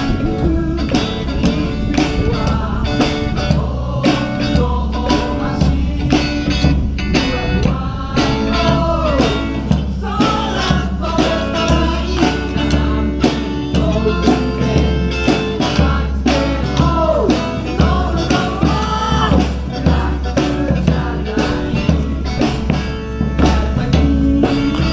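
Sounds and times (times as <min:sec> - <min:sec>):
live band playing: 0:00.0 - 0:24.9
person singing: 0:00.0 - 0:24.9.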